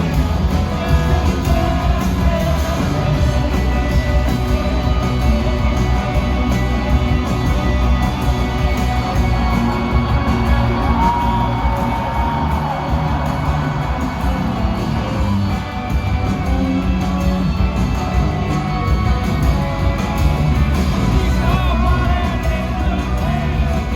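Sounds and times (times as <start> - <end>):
live rock band playing: 0.0 - 23.9.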